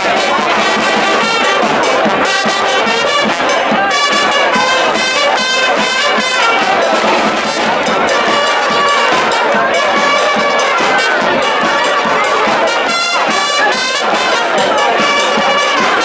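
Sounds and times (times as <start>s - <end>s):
band percussion: 0.0s - 16.0s
brass band playing: 0.0s - 16.0s
trumpets and trombones: 0.0s - 16.0s.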